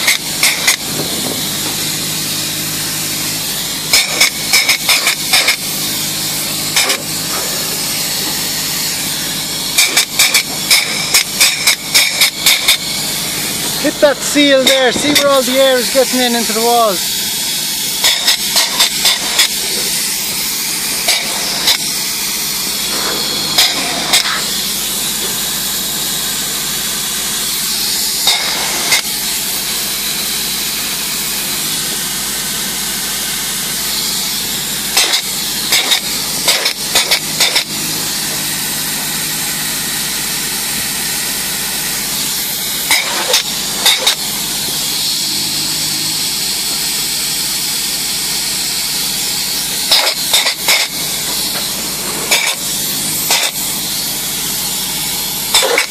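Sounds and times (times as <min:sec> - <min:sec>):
spray foam gun hissing: 0:00.0 - 0:55.9.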